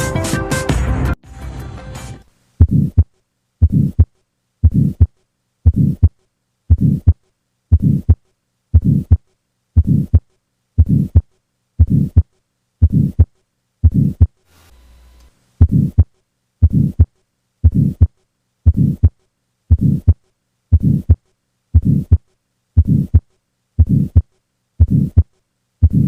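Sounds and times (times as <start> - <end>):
faint hum: 2.3 - 26.0
heartbeat with murmur: 2.6 - 14.4, 15.6 - 26.0.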